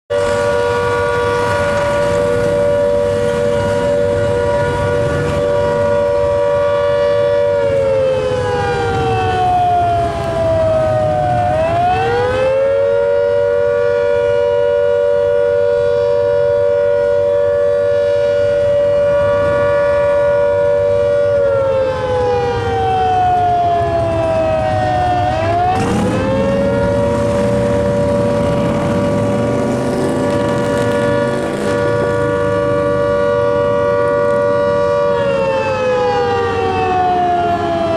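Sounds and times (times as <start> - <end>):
rotor siren wailing: 0.1 - 37.9.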